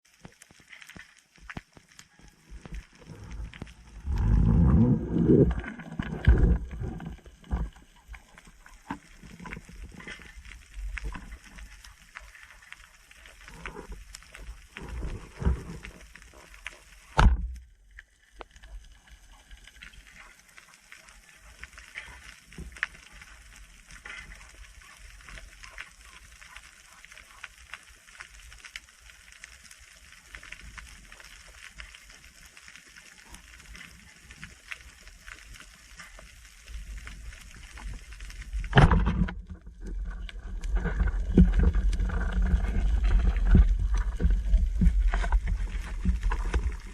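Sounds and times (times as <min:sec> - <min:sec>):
underwater clicking and crackling: 0:00.0 - 0:46.9.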